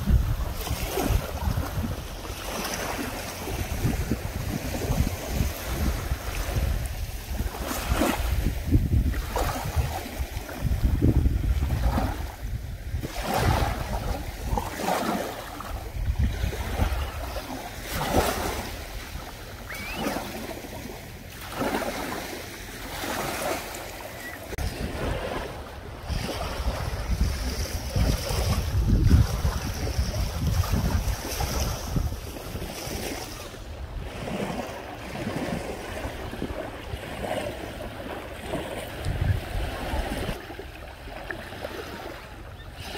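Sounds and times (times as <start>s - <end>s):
waves lapping on shingle beach: 0.0s - 42.9s
wind rumbling on microphone: 0.0s - 42.9s.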